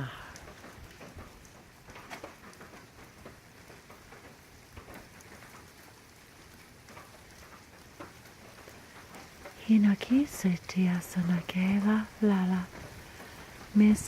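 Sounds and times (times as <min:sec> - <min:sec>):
rain falling steadily: 0:00.0 - 0:14.0
raindrops striking nearby: 0:00.0 - 0:14.0.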